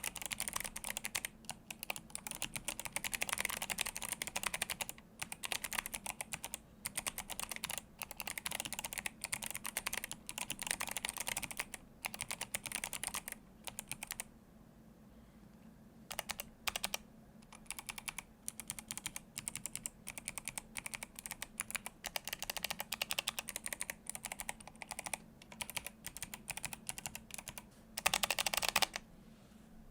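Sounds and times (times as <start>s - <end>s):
clicky keyboard typing: 0.0s - 14.3s, 16.1s - 29.0s.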